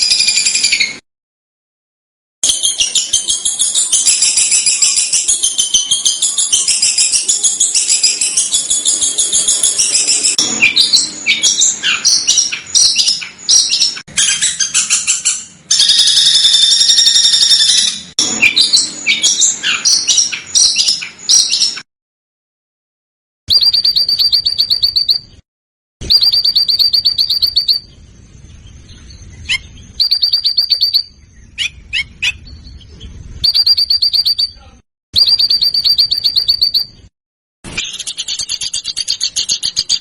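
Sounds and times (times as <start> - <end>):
songbird chattering song: 2.4 - 21.8, 23.5 - 25.4, 26.0 - 37.1, 37.8 - 40.0.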